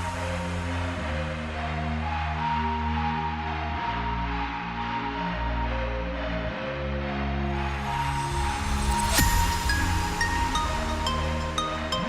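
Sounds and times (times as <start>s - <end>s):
soft electronic music: 0.0s - 12.0s.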